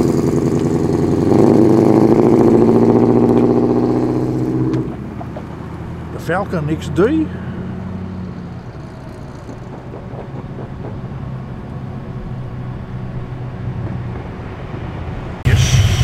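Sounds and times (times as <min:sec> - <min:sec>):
car engine running at low revs: 0:00.0 - 0:16.0
loud engine rumble: 0:00.0 - 0:16.0.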